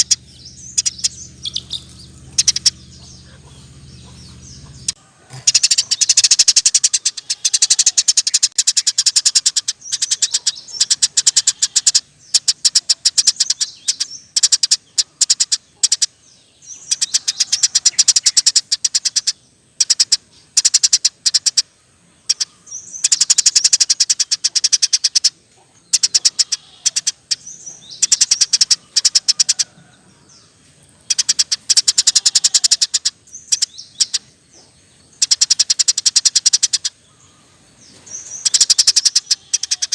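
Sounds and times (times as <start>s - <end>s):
sparrow chattering chirps: 0.0s - 39.9s.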